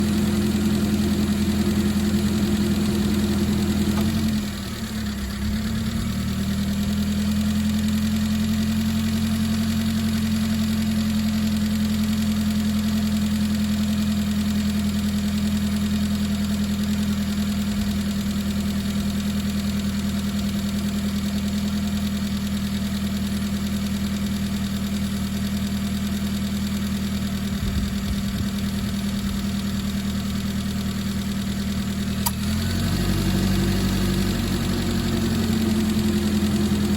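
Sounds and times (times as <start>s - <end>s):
car engine idling drone: 0.0s - 36.9s.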